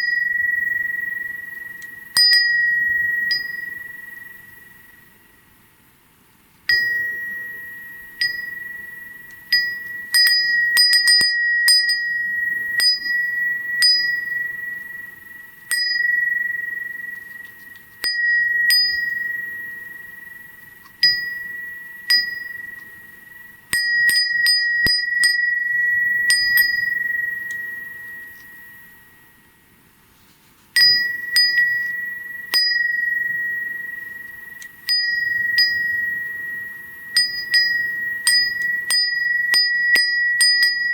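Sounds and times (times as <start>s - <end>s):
glass wind chime ringing: 0.0s - 5.5s, 6.7s - 29.8s, 30.8s - 40.9s.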